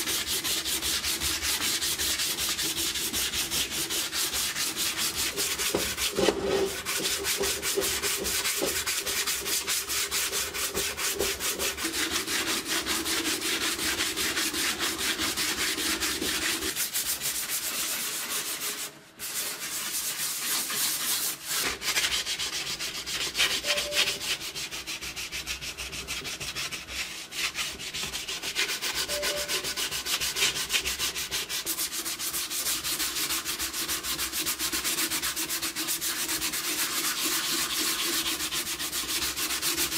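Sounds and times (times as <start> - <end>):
sanding block scratching steel: 0.0 - 39.9.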